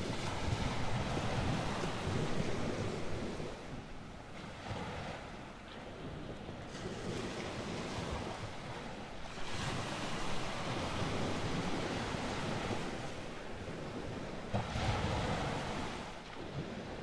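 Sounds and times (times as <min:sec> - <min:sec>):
ocean waves: 0:00.0 - 0:17.0.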